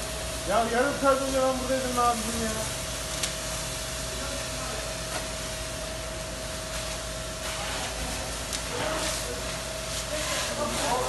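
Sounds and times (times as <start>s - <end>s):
fire crackles and pops: 0.0s - 11.0s
fire roaring: 0.0s - 11.0s.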